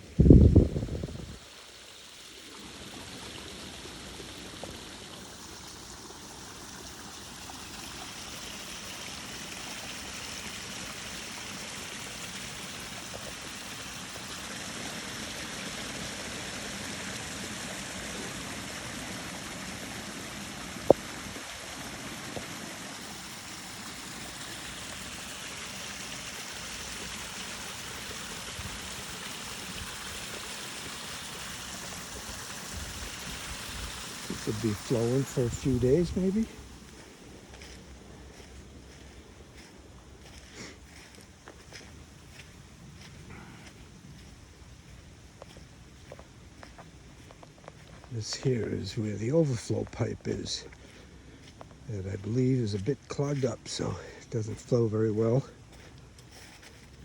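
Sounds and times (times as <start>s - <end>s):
water running over pond edge: 0.0s - 57.0s.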